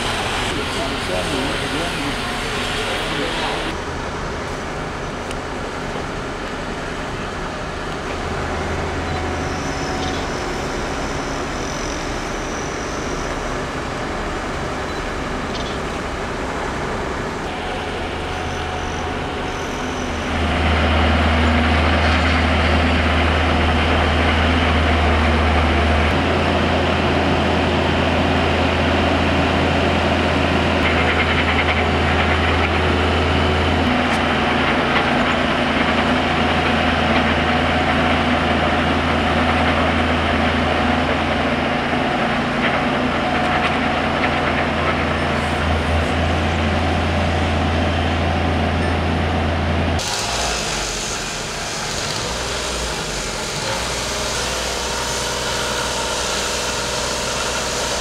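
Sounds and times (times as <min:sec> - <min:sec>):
heavy machinery engine humming: 0:00.0 - 0:58.0.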